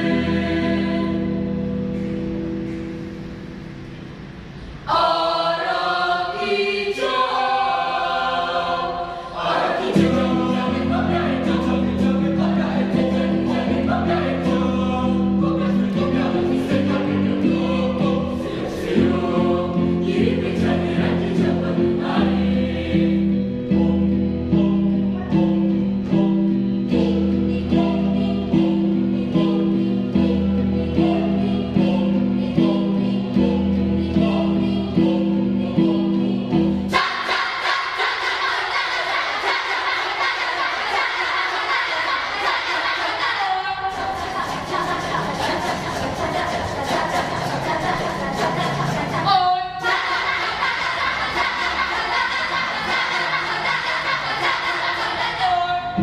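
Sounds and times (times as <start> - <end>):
low pulsed choir part: 0.0 - 56.0
mixed choir singing: 0.0 - 56.0.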